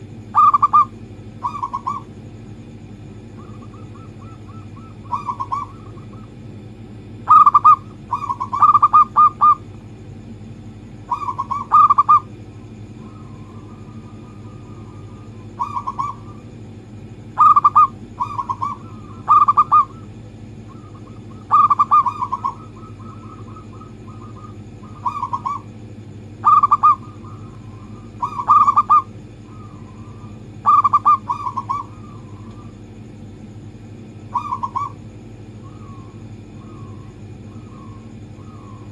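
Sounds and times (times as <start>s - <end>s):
dove cooing: 0.0s - 9.7s, 10.8s - 16.6s, 17.2s - 33.1s, 34.1s - 38.9s
steady low hum: 0.0s - 38.9s.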